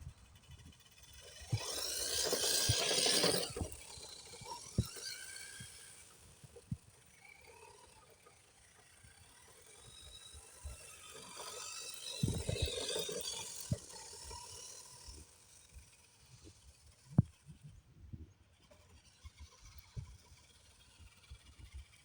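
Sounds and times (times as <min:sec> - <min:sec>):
toy truck motor whirring: 0:00.0 - 0:17.8, 0:18.4 - 0:22.0.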